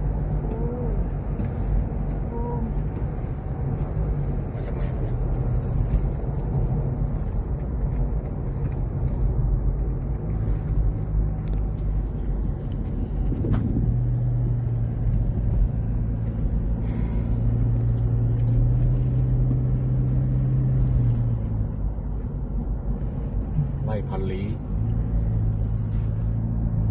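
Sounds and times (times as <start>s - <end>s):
car engine running: 0.0s - 26.9s
road noise: 0.0s - 26.9s.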